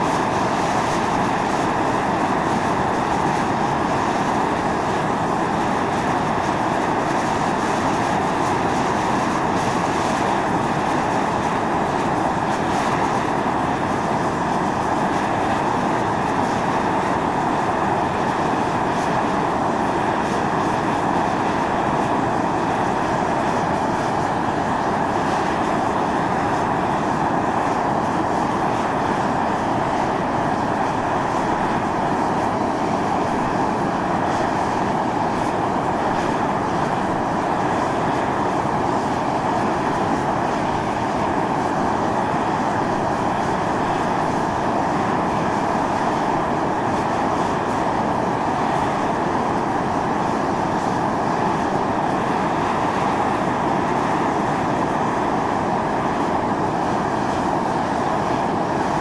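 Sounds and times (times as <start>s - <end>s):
fumarole venting steam: 0.0s - 59.0s.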